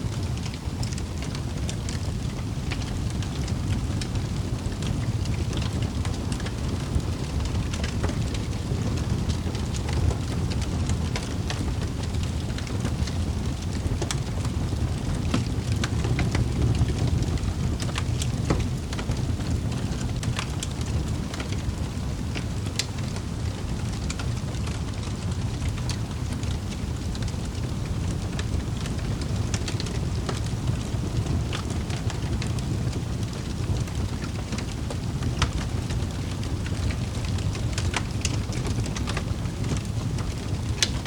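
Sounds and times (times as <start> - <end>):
fire burning: 0.0 - 41.0
fire crackling and popping: 0.0 - 41.0.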